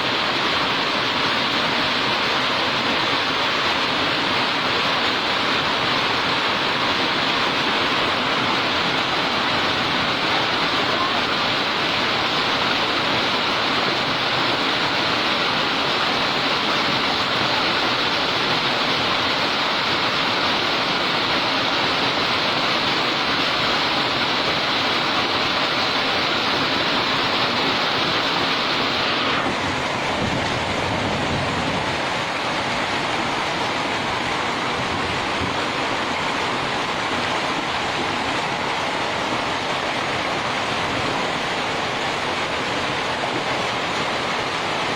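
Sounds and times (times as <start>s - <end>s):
hail and rain pelting down: 0.0s - 44.9s.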